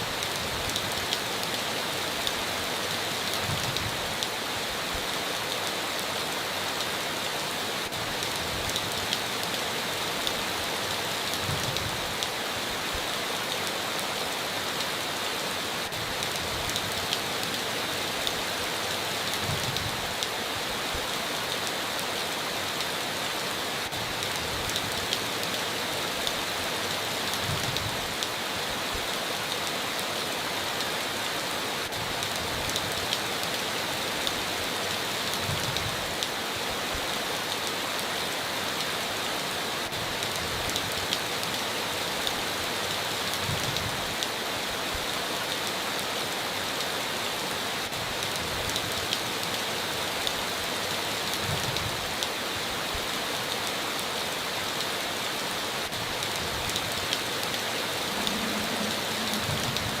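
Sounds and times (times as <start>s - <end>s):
heavy rain on a tin roof: 0.0s - 60.0s.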